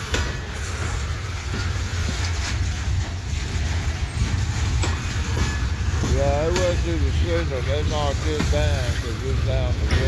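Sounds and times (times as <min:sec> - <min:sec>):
freight train rumbling past: 0:00.0 - 0:10.0
wheels clicking on rail: 0:00.0 - 0:10.0.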